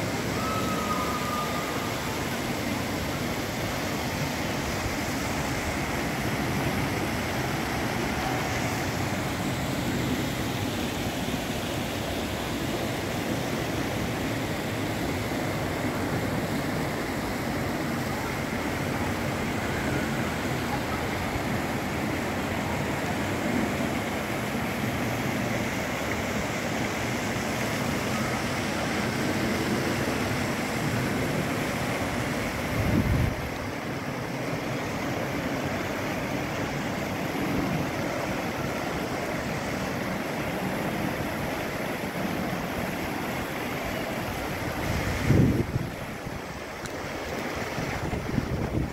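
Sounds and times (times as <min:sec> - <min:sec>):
fountains splashing in a lake: 0:00.0 - 0:48.9.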